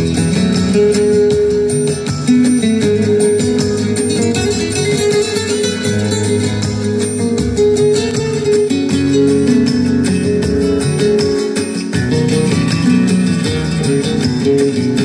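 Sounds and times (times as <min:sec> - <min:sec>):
flamenco acoustic guitar: 0:00.0 - 0:15.0.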